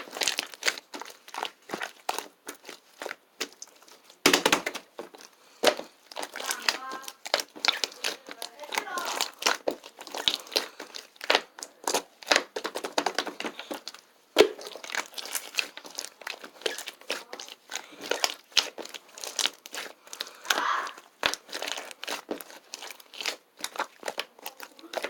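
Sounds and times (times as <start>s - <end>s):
slime snapping: 0.0s - 25.0s
slime squelching and clicking: 0.0s - 25.0s.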